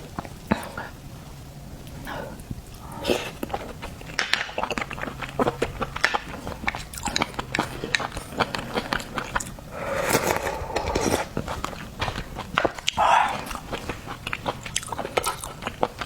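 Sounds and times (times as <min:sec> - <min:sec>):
wet chewing and smacking: 0:01.8 - 0:16.0.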